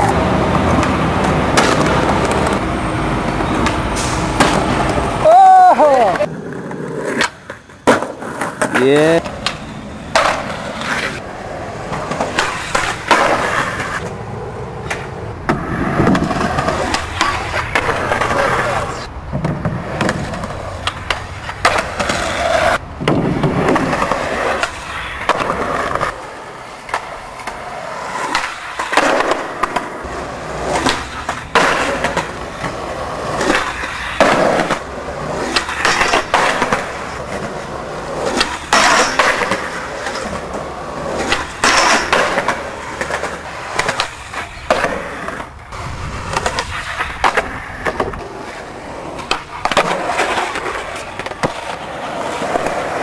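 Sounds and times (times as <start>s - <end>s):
skateboard sliding on metal: 0.0s - 53.0s
skateboard wheels rolling on concrete: 0.0s - 53.0s
skateboard tail pops and landings: 6.6s - 11.2s, 11.9s - 14.2s, 14.8s - 18.5s, 19.3s - 26.2s, 26.9s - 53.0s.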